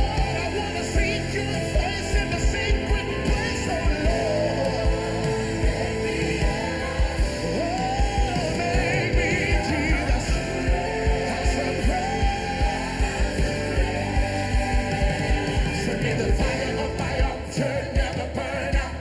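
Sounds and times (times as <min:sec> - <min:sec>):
drums: 0:00.0 - 0:19.0
guitars: 0:00.0 - 0:19.0
keyboards: 0:00.0 - 0:19.0
steady kick drum beat: 0:00.0 - 0:19.0
voices singing: 0:00.0 - 0:19.0.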